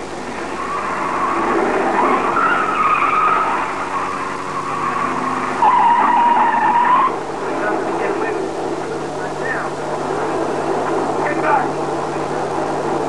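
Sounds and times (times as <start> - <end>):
motor vehicle running with whine: 0.0 - 13.0.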